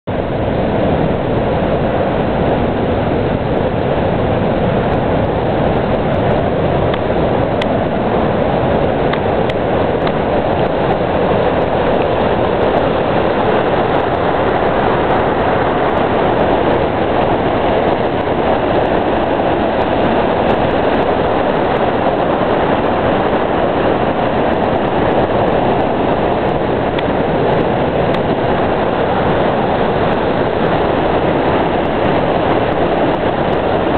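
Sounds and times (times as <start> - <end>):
waterfall and rapids rushing: 0.0 - 33.9.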